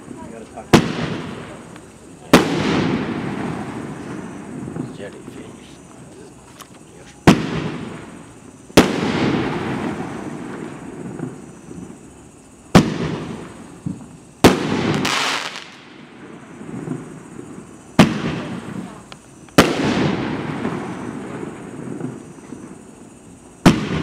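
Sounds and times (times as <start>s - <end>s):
fireworks bangs: 0.0s - 24.0s
noisy crackling tail: 0.0s - 24.0s.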